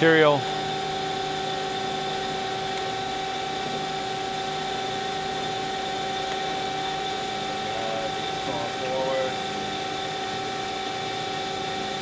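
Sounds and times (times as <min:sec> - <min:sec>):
hydraulic power unit whining: 0:00.0 - 0:12.0.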